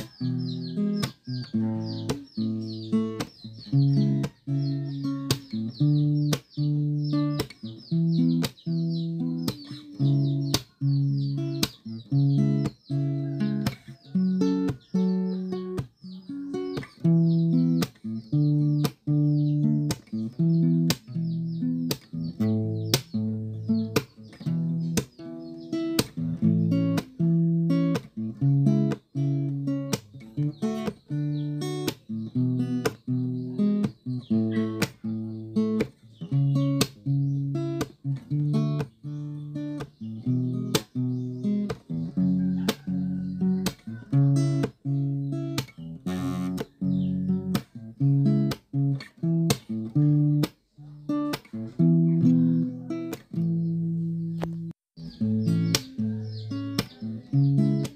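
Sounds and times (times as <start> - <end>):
strummed guitar chords: 0.0 - 57.9.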